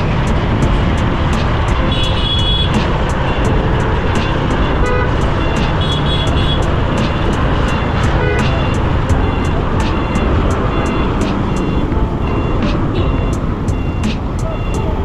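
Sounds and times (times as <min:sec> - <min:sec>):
motorcycle engine: 0:00.0 - 0:14.7
road noise: 0:00.0 - 0:15.0
wind rush on microphone: 0:00.0 - 0:15.0
car horn toots: 0:01.4 - 0:15.0.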